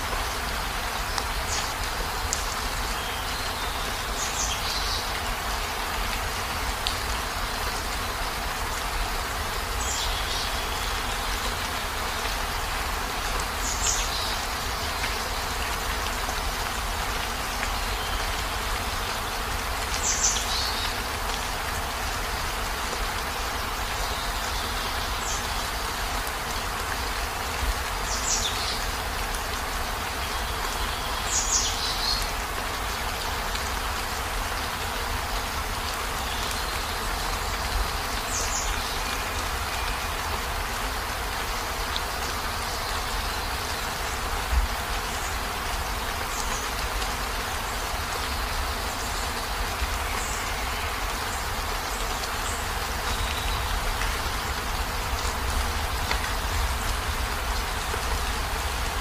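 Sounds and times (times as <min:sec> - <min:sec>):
rain on a camper van: 0:00.0 - 0:59.0.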